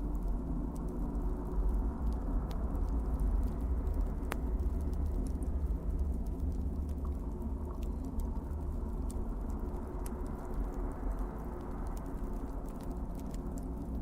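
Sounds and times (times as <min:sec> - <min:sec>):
fire crackling: 0:00.0 - 0:14.0
fire popping: 0:00.0 - 0:14.0
fire rumbling in fireplace: 0:00.0 - 0:14.0.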